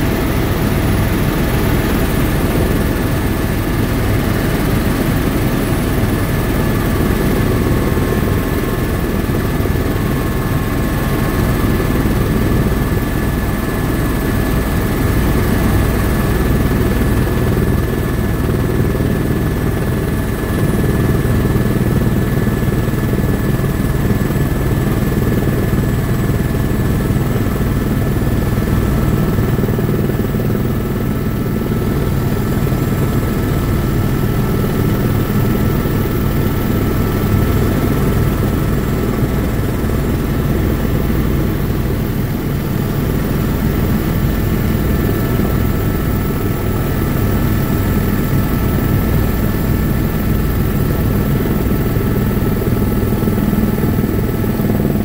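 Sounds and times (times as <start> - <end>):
helicopter rotor and engine drone: 0.0 - 55.0.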